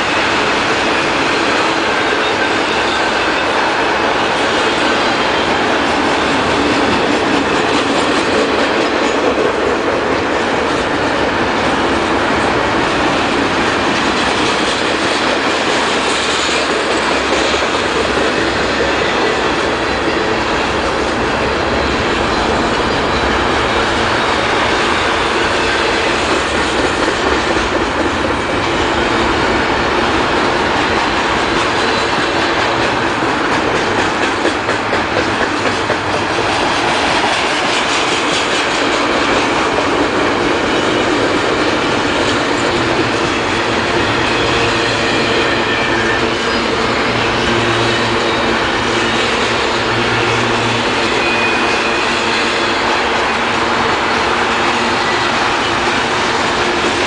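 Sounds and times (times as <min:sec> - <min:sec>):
freight train wheels on rails: 0:00.0 - 0:57.0.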